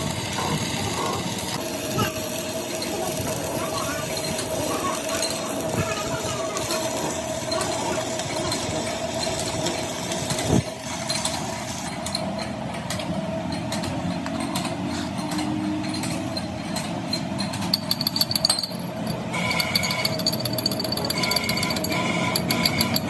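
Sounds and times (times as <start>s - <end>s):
workshop machinery humming: 0.0s - 23.0s.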